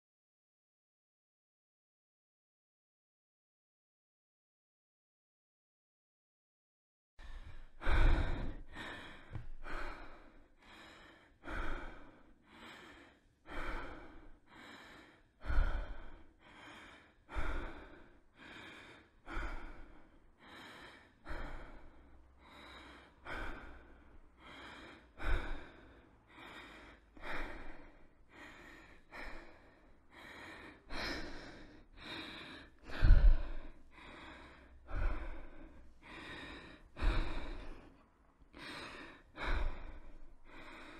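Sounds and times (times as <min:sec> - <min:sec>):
person breathing heavily: 0:07.2 - 0:40.9.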